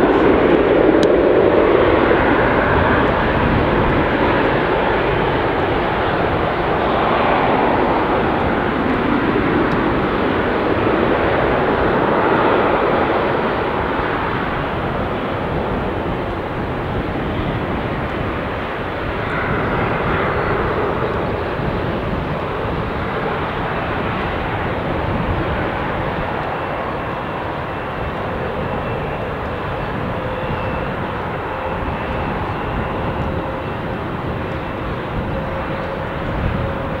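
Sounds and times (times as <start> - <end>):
jet engine roar: 0.0 - 37.0
wind buffeting microphone: 0.0 - 37.0.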